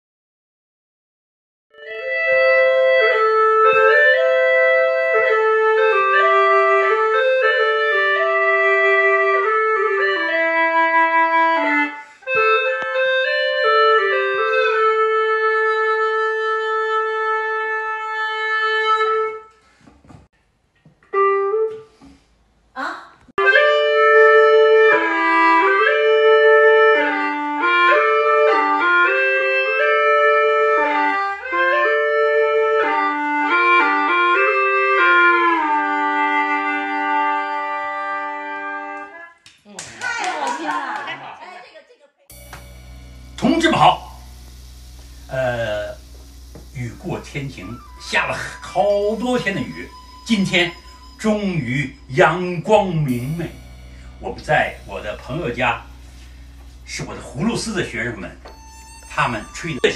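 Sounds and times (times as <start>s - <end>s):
gourd flute and bamboo pipe duet: 1.8s - 19.5s, 23.4s - 39.4s, 42.3s - 59.9s.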